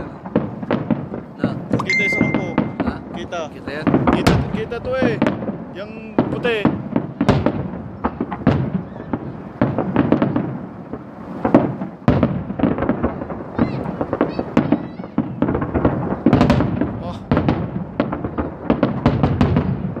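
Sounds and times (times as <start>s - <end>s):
firework shells bursting: 0.2s - 20.0s.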